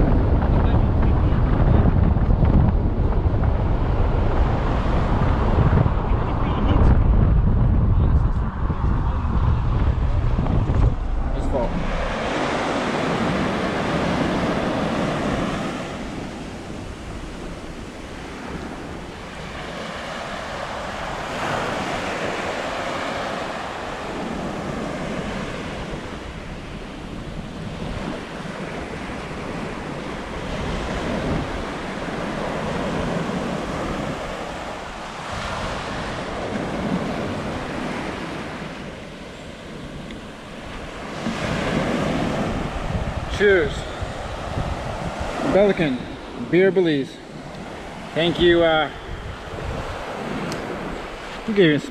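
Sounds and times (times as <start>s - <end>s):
sea waves washing onto beach: 0.0s - 6.9s, 8.4s - 51.9s
wind noise on microphone: 0.0s - 51.9s.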